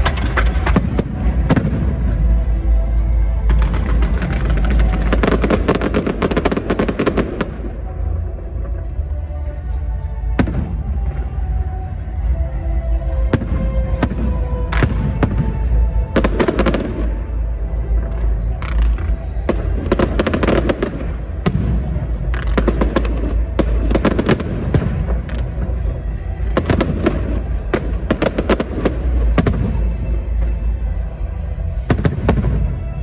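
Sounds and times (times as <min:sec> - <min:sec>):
fireworks bangs and crackling: 0:00.0 - 0:12.3, 0:13.0 - 0:33.0
music playing: 0:00.0 - 0:33.0.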